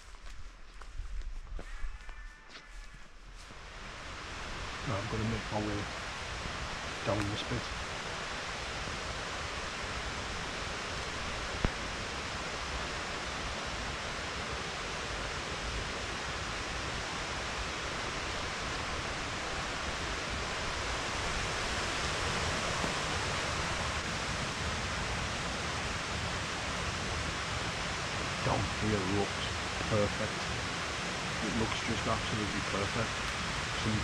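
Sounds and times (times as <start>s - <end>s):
stream rushing: 3.5s - 34.0s.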